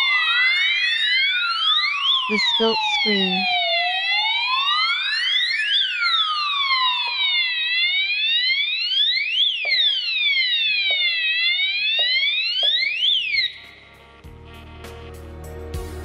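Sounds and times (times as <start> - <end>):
fire alarm wailing siren: 0.0 - 14.0.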